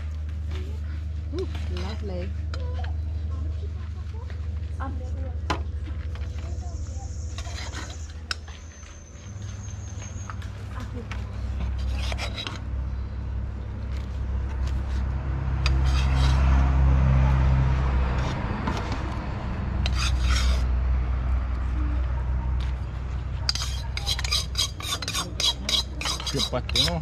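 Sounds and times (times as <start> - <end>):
steady low rumble: 0.0 - 26.8.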